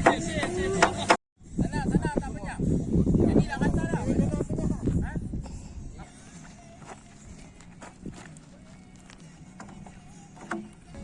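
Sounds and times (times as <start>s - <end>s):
faint music: 0.0s - 11.0s.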